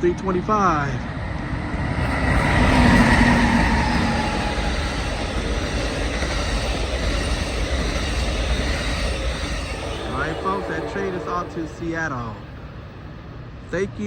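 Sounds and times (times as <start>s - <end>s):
diesel locomotive passing: 0.0s - 14.0s
train cars rumbling on rails: 0.4s - 13.9s
locomotive steady tones: 1.4s - 14.0s.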